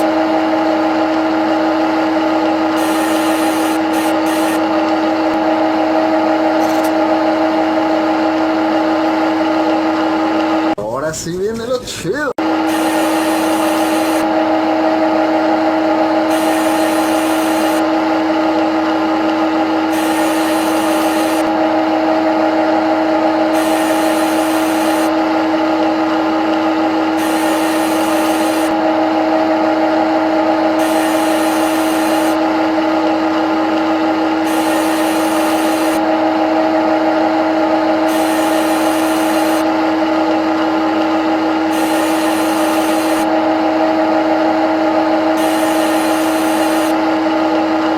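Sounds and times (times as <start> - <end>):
lathe machine hum: 0.0 - 10.8, 12.4 - 47.9.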